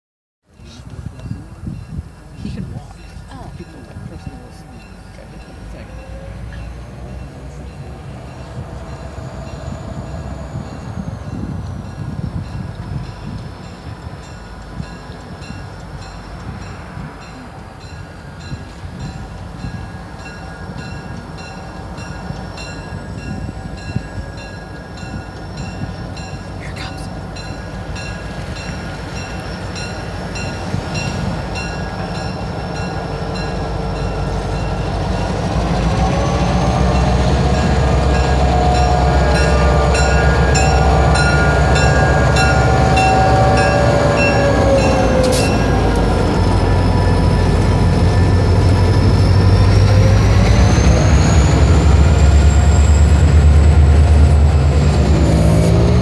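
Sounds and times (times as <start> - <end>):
diesel locomotives passing: 0.5 - 56.0.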